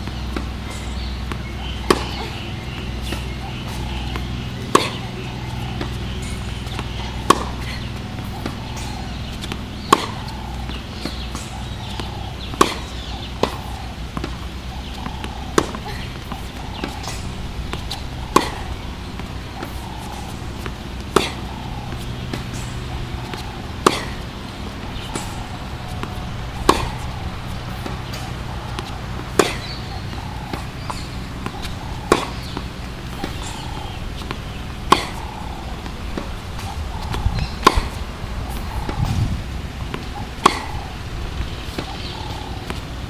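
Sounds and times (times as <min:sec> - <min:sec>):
steady low hum: 0:00.0 - 0:43.0
tennis racket hitting ball: 0:00.0 - 0:43.0.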